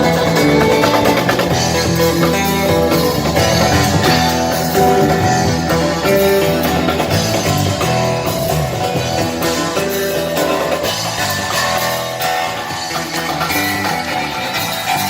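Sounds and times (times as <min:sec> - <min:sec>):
loud rock music: 0:00.0 - 0:15.0.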